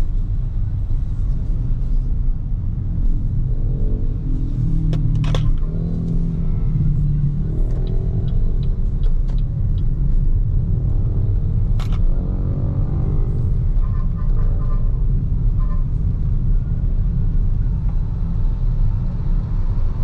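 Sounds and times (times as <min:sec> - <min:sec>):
tyre and road noise: 0:00.0 - 0:20.0.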